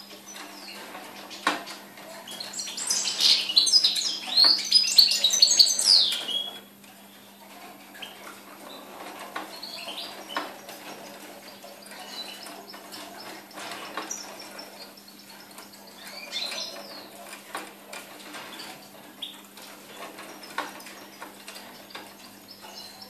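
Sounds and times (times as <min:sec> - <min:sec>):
bird twittering and chirping: 0:00.0 - 0:23.0.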